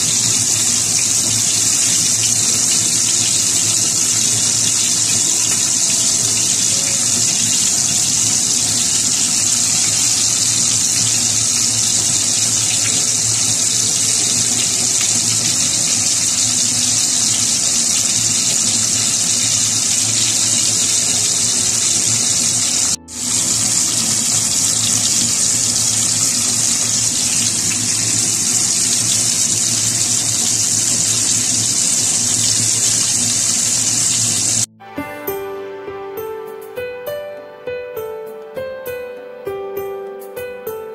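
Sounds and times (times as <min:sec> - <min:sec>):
hot oil sizzling: 0:00.0 - 0:34.7.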